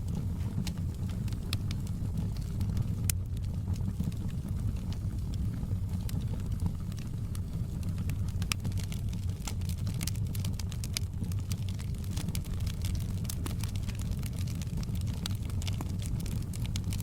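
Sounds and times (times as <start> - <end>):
fire popping and crackling: 0.0 - 17.0
low rumble of flames: 0.0 - 17.0.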